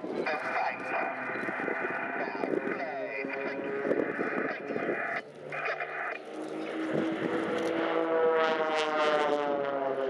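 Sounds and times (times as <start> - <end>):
propeller aircraft droning in flight: 0.0 - 10.0.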